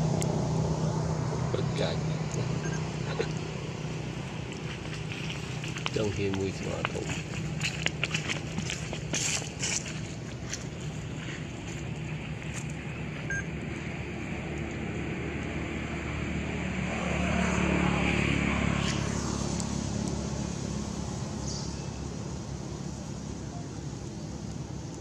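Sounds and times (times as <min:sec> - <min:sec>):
vehicle driving past: 0:00.0 - 0:08.9, 0:10.7 - 0:23.4
low hum of traffic: 0:00.0 - 0:25.0.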